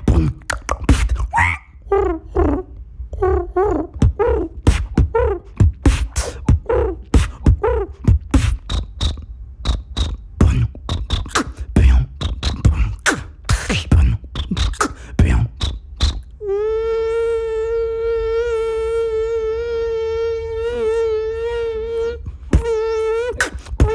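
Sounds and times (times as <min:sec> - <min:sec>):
vocal beatboxing: 0:00.0 - 0:16.3, 0:17.3 - 0:23.9
high vocal chirps: 0:00.0 - 0:23.9
pitched vocal sounds: 0:00.0 - 0:23.9.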